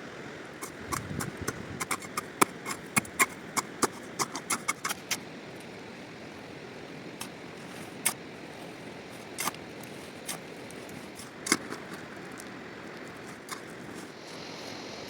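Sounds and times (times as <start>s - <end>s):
steady hiss: 2.7s - 15.0s.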